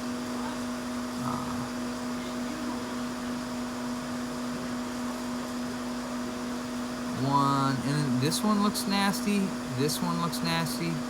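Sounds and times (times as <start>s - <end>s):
electric fan motor hum: 0.0s - 11.0s.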